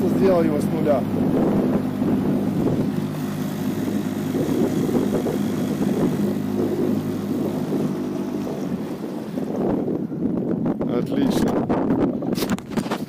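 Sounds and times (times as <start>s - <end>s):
outboard motor hum: 0.0s - 13.0s
water rushing along hull: 0.0s - 13.0s.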